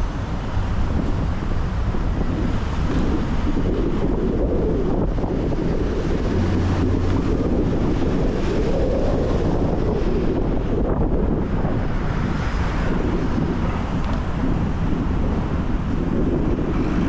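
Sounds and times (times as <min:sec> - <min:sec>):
deep rumble: 0:00.0 - 0:17.0
tyres on wet road: 0:00.0 - 0:17.0
wind: 0:00.0 - 0:17.0.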